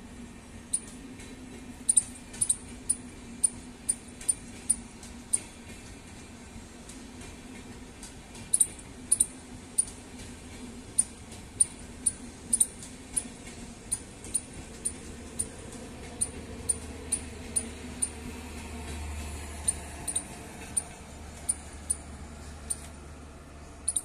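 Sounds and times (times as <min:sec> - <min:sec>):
distant train rumble: 0:00.0 - 0:24.0
train wheels clicking on track: 0:00.0 - 0:24.0.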